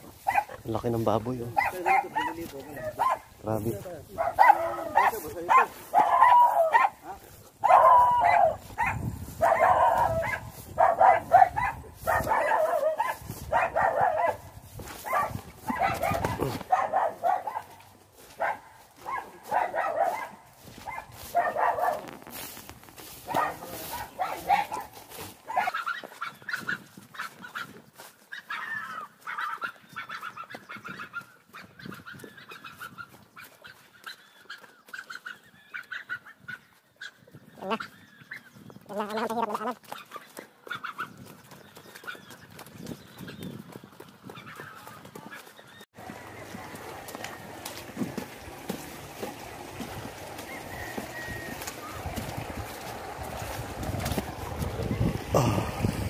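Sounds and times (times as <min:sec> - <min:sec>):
farm animals calling: 0:00.0 - 0:56.0.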